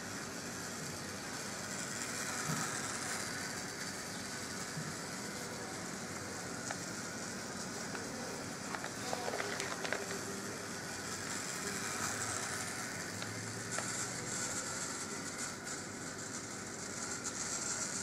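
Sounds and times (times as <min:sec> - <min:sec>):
model train wheels on rails: 0:00.0 - 0:18.0
small electric motor humming: 0:00.0 - 0:18.0.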